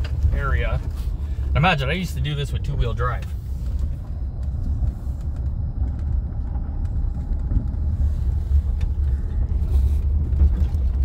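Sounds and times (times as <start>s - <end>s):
engine and tyres rumbling: 0.0s - 11.0s.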